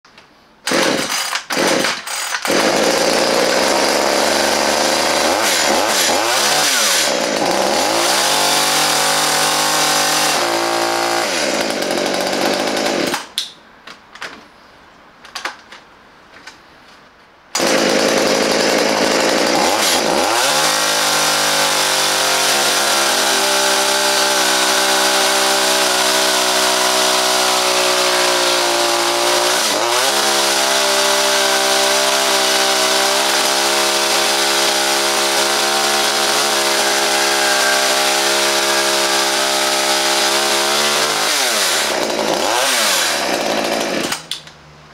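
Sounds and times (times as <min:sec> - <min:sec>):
chainsaw engine revving: 0:00.7 - 0:13.3, 0:17.6 - 0:44.4.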